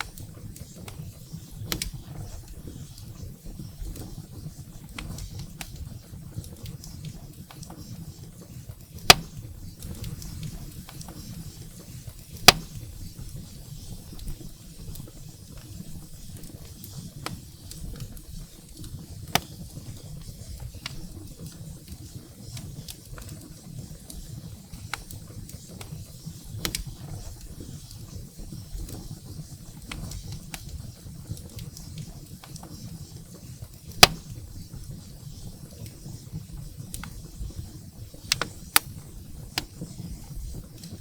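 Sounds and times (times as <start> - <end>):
wood fire crackling in fireplace: 0.0 - 41.0.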